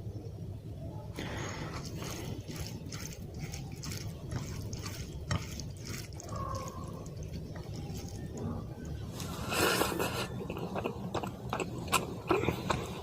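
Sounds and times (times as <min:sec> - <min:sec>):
steady low hum: 0:00.0 - 0:13.0
wet food squelching: 0:01.2 - 0:13.0.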